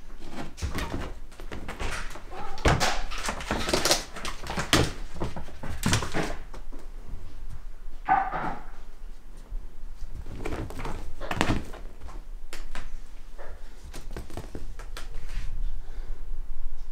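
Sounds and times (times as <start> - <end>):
cat playing on sofa: 0.0 - 7.6, 8.8 - 15.5.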